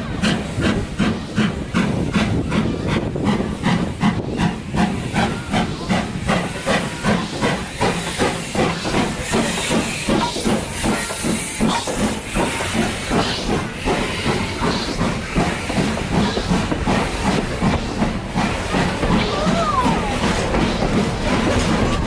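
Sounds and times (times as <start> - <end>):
steam hiss: 0.0 - 22.0
steam locomotive chuffing: 0.0 - 22.0.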